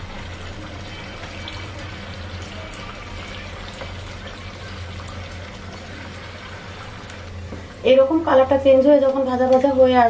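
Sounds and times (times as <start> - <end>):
chicken frying in oil: 0.0 - 10.0.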